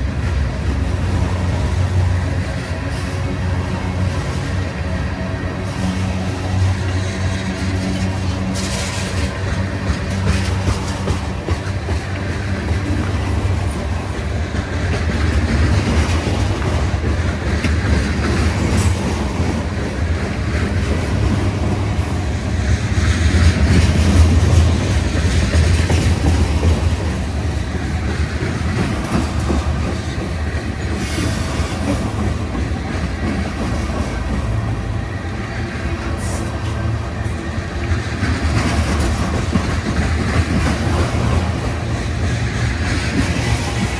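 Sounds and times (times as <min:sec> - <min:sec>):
train rumble: 0:00.0 - 0:43.9
train wheels clicking on rails: 0:00.0 - 0:43.9.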